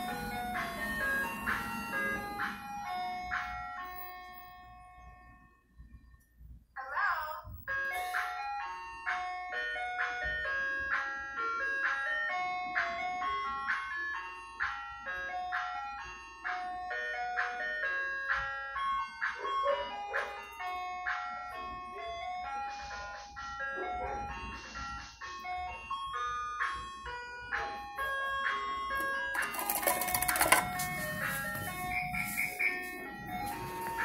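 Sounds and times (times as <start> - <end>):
ice cream truck chime jingle: 0.0 - 34.0.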